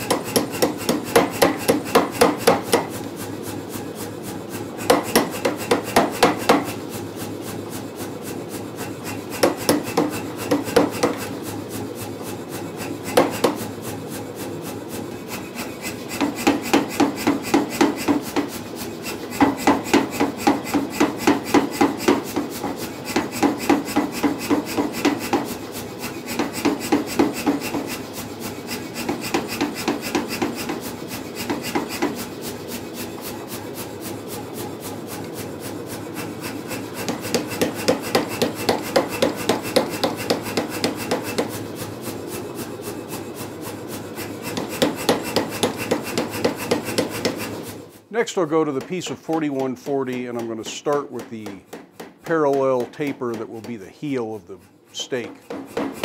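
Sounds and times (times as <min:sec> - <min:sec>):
power hammer striking steel: 0:00.0 - 0:03.1, 0:04.8 - 0:06.8, 0:09.0 - 0:11.3, 0:12.8 - 0:13.7, 0:15.1 - 0:35.5, 0:36.1 - 0:41.6, 0:43.0 - 0:47.6, 0:48.4 - 0:56.0.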